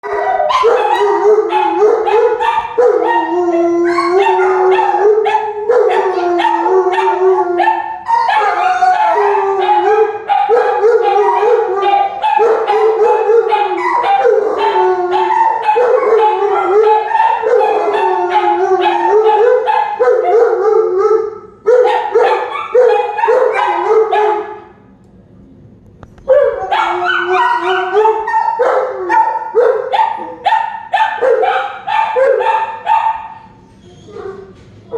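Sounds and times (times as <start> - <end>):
dog howling and yipping: 0.0 - 24.5, 26.3 - 33.1.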